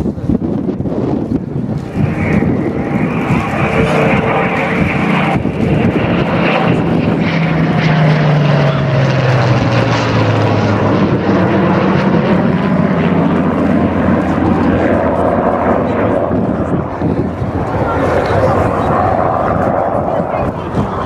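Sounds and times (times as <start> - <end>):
aircraft engines flying past: 0.0 - 21.0.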